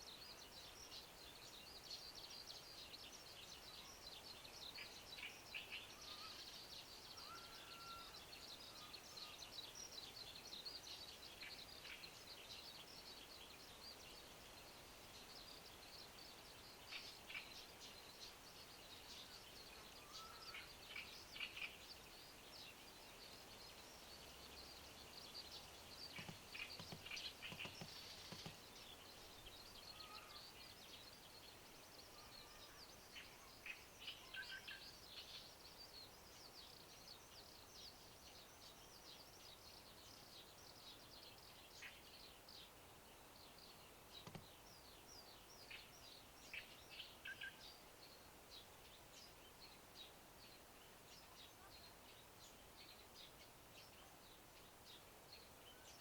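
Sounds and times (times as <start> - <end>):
small birds chirping: 0.0 - 56.0
soft outdoor hiss: 0.0 - 56.0.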